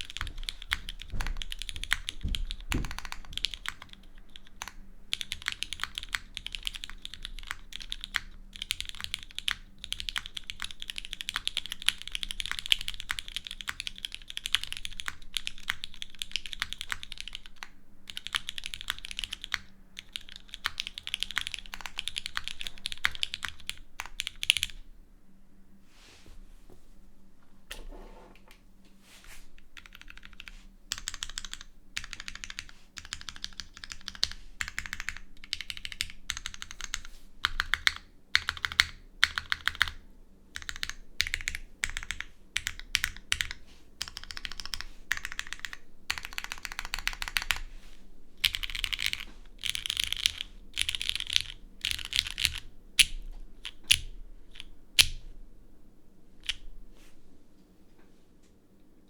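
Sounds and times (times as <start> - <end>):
mechanical keyboard typing: 0.0 - 24.8, 29.8 - 40.0, 40.6 - 47.7, 48.4 - 55.2.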